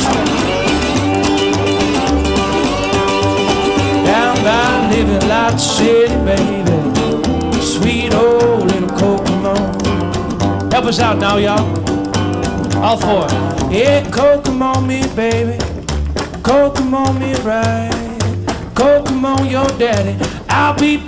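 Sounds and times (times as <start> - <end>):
country guitar with bending notes: 0.0 - 21.0.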